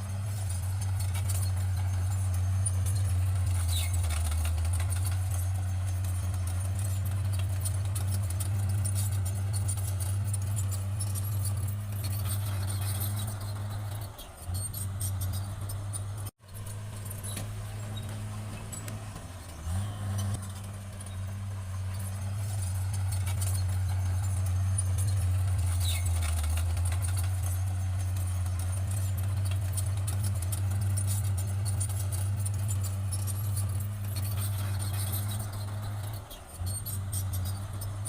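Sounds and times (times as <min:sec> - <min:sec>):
bulldozer diesel engine droning: 0:00.0 - 0:38.0.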